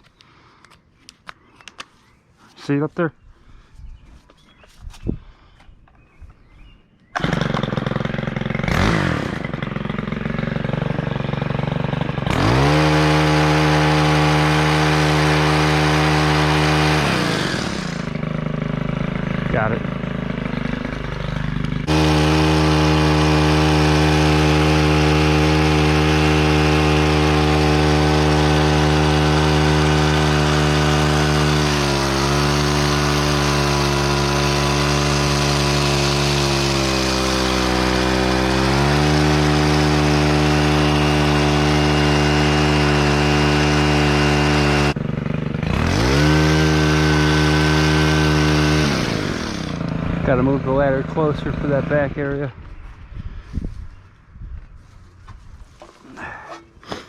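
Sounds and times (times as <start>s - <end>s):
gas hedge trimmer running: 7.2s - 52.5s, 55.8s - 57.0s.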